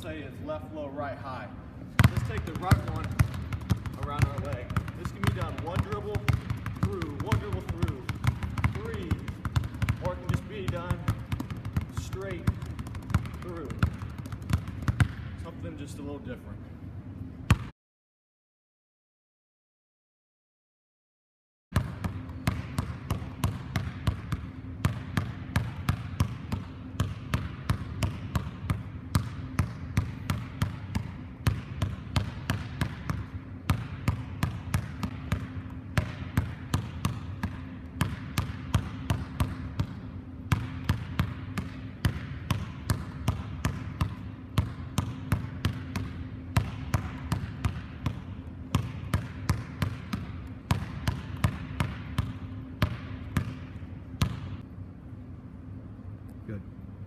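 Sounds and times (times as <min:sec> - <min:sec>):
low steady hum: 0:00.0 - 0:17.7, 0:21.8 - 0:57.0
basketball bouncing on wooden floor: 0:02.0 - 0:15.5, 0:17.5 - 0:17.7, 0:21.8 - 0:54.6.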